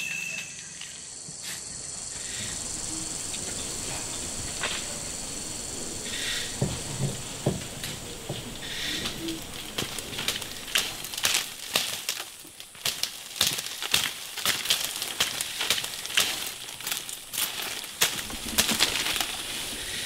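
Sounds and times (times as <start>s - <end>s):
palm fronds rustling and crackling: 0.0s - 20.0s.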